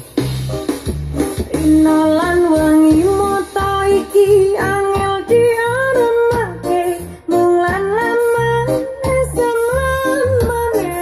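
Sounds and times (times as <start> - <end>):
song with female singer: 1.4 - 11.0.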